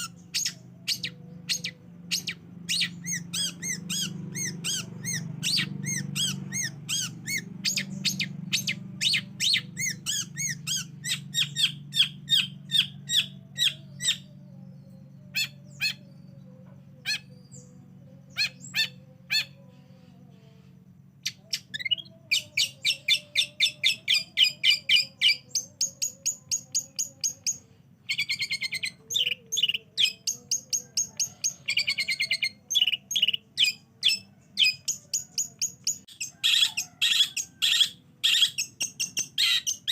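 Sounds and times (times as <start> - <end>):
harsh buzzy bird trill: 0.0 - 39.9.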